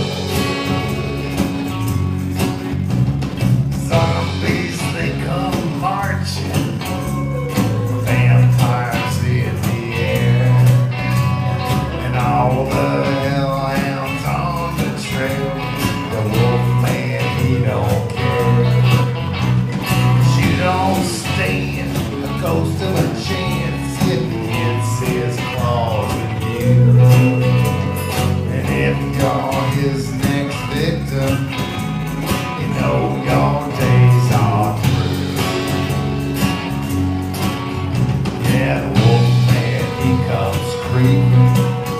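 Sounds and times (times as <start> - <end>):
man singing: 0.0 - 2.1, 3.8 - 35.9, 38.4 - 41.9
bass guitar: 0.0 - 41.9
drums: 0.0 - 41.9
electric guitars: 0.0 - 41.9
strummed acoustic guitar: 0.0 - 41.9.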